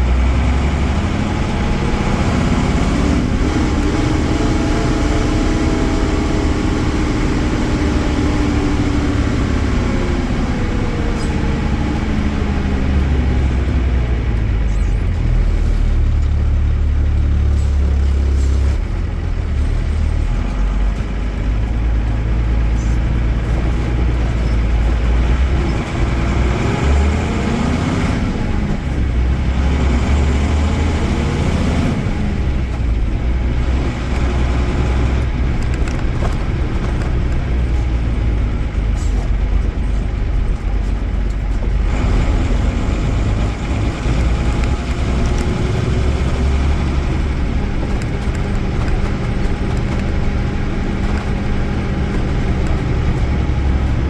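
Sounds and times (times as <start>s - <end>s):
diesel coach engine droning: 0.0s - 54.0s.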